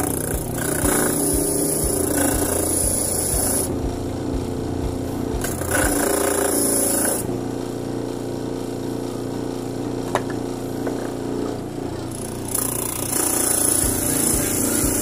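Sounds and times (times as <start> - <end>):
gritty hiss of sanding wood: 0.0 - 9.9, 10.5 - 15.0
motor humming: 0.0 - 15.0.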